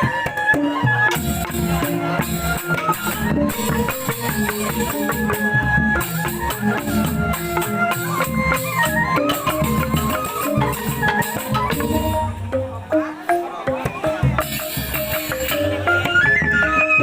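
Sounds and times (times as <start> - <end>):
bamboo gamelan notes: 0.0 - 17.0
steady percussion: 0.0 - 17.0.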